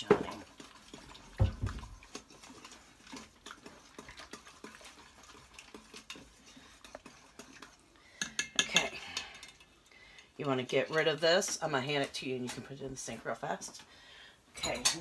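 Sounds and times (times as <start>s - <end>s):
utensil scraping pot: 0.0s - 13.2s.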